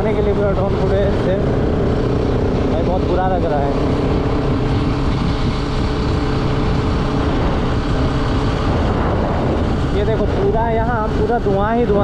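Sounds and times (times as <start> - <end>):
motorcycle engine cruising: 0.0 - 12.0
wind rush on microphone: 0.0 - 12.0.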